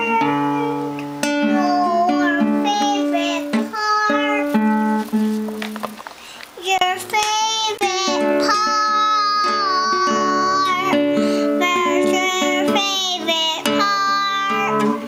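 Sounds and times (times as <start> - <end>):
toddler singing: 0.0 - 5.2, 6.6 - 15.0
acoustic guitar strumming: 0.0 - 15.0.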